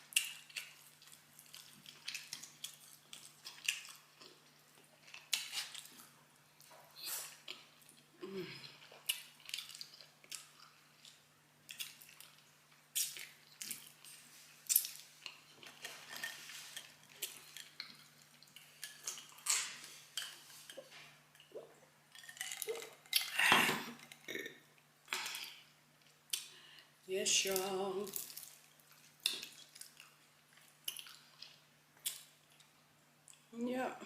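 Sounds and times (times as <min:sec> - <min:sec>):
faint steady hum: 0:00.0 - 0:34.0
mouth smacks and wet chewing: 0:00.1 - 0:23.4, 0:28.2 - 0:33.5.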